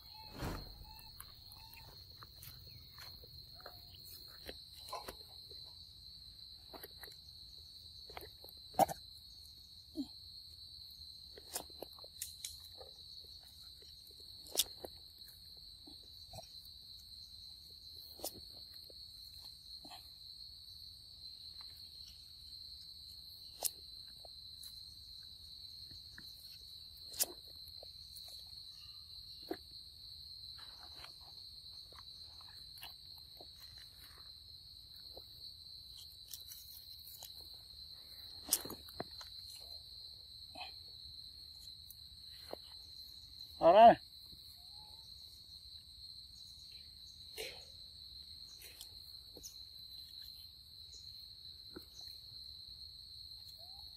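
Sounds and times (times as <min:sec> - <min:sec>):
insect chorus trilling: 0:00.0 - 0:53.9.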